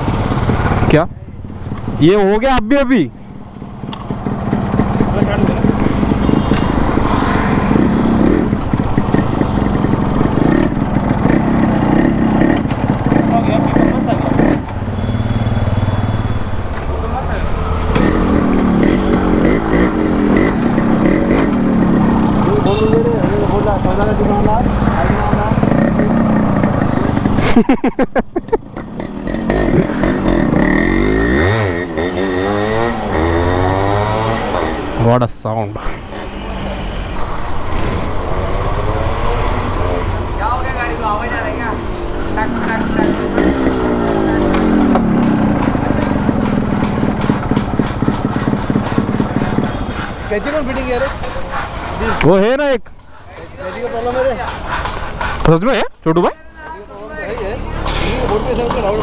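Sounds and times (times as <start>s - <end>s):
two-stroke engine idling with rattle: 0.0s - 2.4s, 3.2s - 6.6s, 7.2s - 35.2s, 37.3s - 59.0s.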